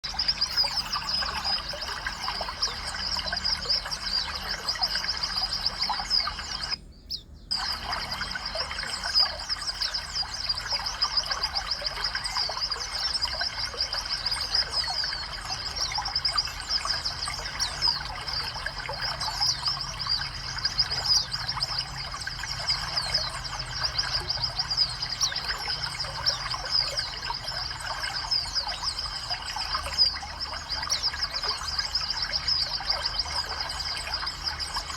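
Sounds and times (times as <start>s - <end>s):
songbirds chirping and twittering: 0.0s - 34.9s.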